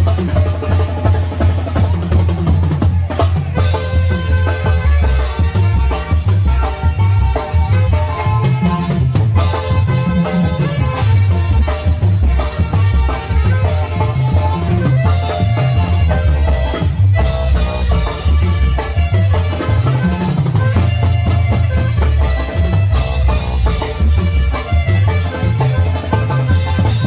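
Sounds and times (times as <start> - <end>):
bass drum beat: 0.0 - 27.0
drums and cymbals: 0.0 - 27.0
saxophone melody: 3.6 - 27.0.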